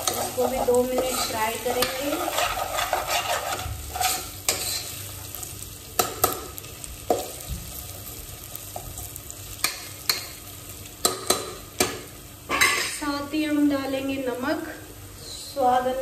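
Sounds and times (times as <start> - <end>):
spices sizzling in oil: 0.0 - 16.0.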